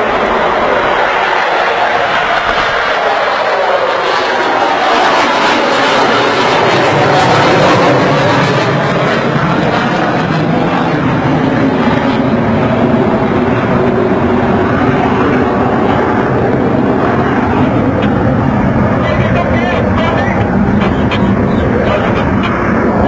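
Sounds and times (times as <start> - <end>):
fighter jet engine rush: 0.0 - 23.0.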